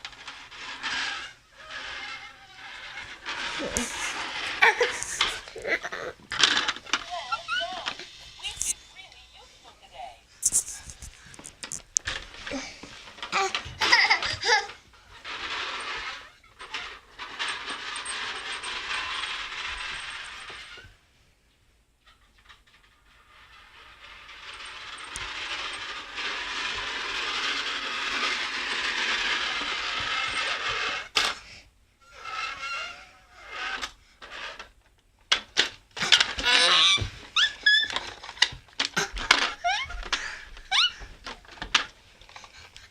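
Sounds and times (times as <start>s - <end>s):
toy train rattling on track: 0.0s - 8.8s, 10.4s - 21.0s, 22.2s - 42.9s.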